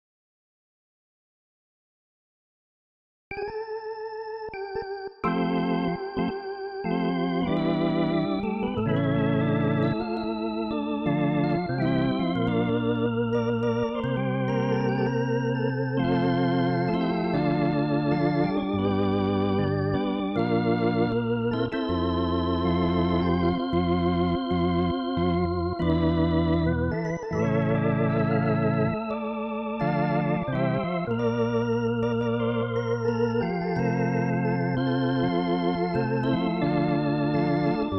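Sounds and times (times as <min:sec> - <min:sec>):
organ chords over bass line: 0:03.3 - 0:37.9.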